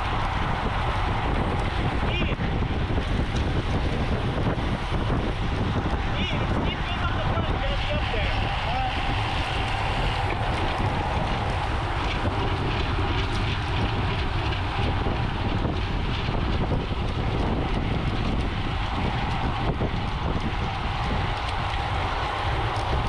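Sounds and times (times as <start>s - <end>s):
bicycle rolling noise: 0.0s - 23.0s
wind rushing over microphone: 0.0s - 23.0s.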